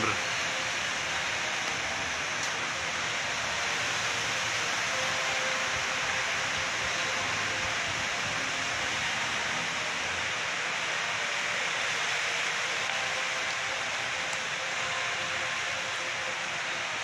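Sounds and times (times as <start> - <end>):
heavy rain on foliage: 0.0 - 17.0.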